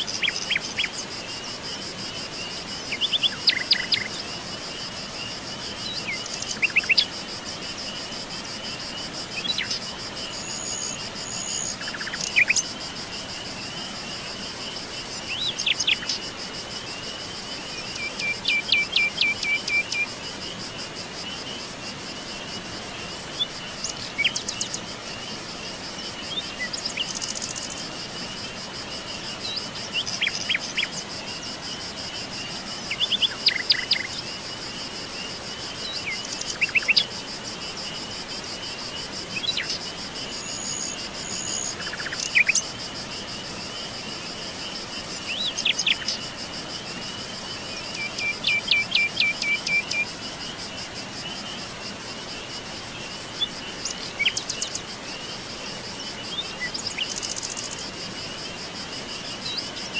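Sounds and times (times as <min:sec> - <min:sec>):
insects trilling: 0:00.0 - 0:59.9
soft steady hiss: 0:00.0 - 0:59.9.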